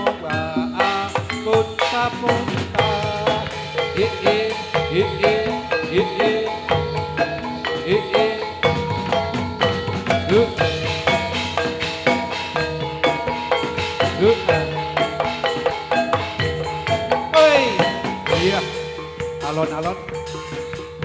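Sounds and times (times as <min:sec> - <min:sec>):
metallophones struck: 0:00.0 - 0:21.0.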